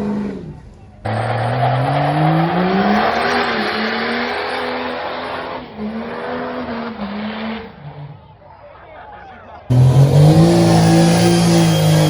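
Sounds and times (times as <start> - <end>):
diesel truck engine revving: 0.0 - 8.3, 9.7 - 12.0.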